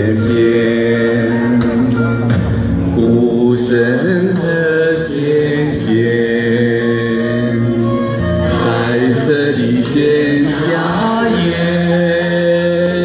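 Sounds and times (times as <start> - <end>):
choir singing: 0.0 - 2.2, 3.0 - 13.0.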